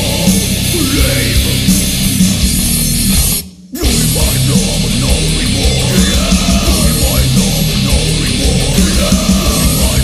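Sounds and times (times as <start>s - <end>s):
stoner rock with heavy guitars: 0.0s - 10.0s.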